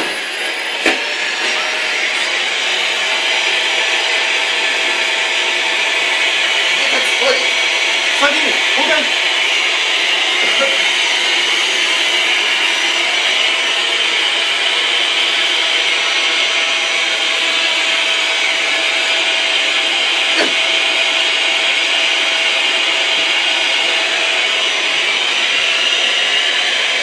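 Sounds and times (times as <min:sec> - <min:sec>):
vacuum cleaner whine: 0:00.0 - 0:27.0.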